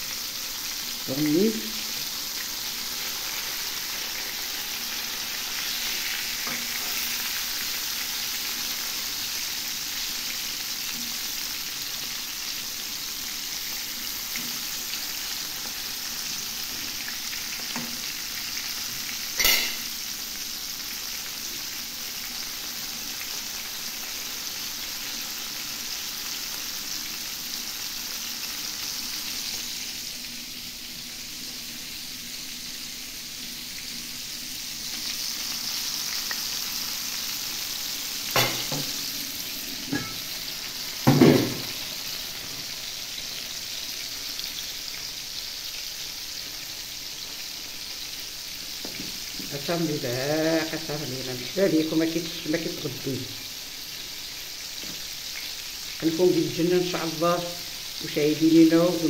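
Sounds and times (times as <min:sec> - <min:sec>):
fish sizzling in hot oil: 0:00.0 - 0:59.0.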